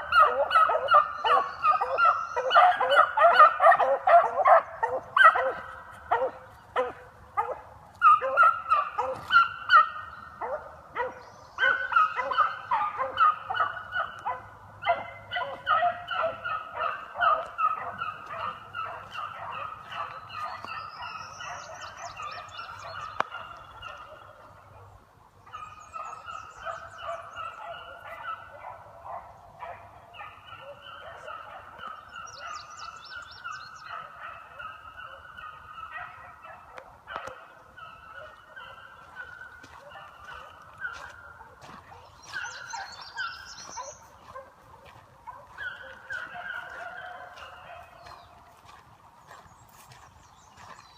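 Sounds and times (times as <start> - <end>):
beagles baying: 0.0 - 50.9.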